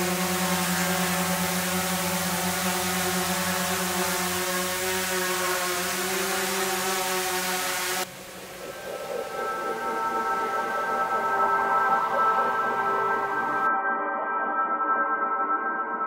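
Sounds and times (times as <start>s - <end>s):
drone propellers whirring: 0.0s - 13.7s.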